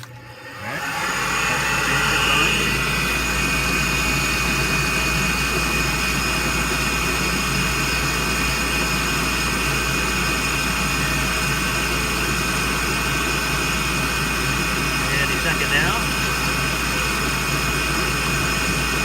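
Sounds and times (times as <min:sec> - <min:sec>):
furnace fan whirring: 0:00.0 - 0:19.0.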